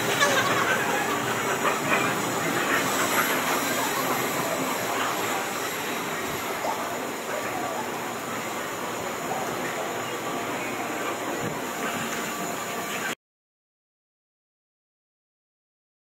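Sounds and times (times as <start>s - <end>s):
train rail rumble and hiss: 0.0s - 13.2s.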